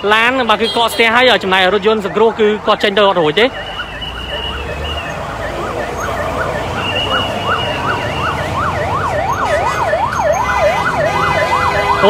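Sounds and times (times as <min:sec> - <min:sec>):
low rumble of traffic: 0:00.0 - 0:12.0
ambulance siren yelping: 0:01.1 - 0:12.0.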